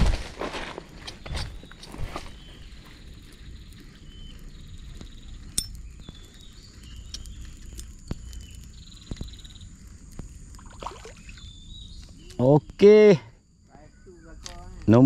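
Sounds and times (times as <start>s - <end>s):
wind rumble: 0.0s - 12.8s
insects whining: 0.0s - 15.0s
insect chirring calls: 1.0s - 15.0s.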